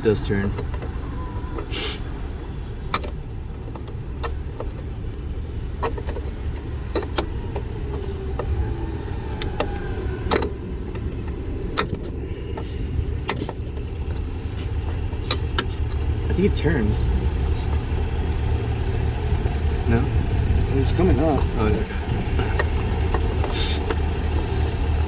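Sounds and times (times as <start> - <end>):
steady low rumble: 2.0 - 25.0.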